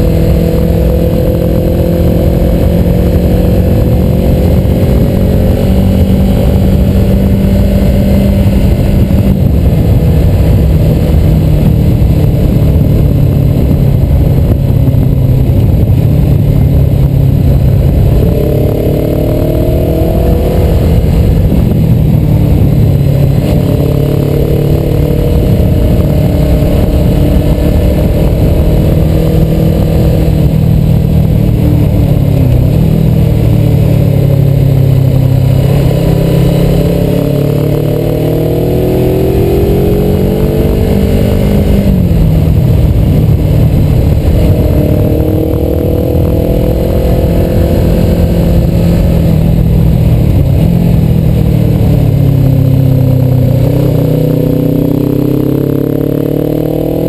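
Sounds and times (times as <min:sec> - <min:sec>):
motorcycle engine roar: 0:00.0 - 0:57.0
wind noise: 0:00.0 - 0:57.0.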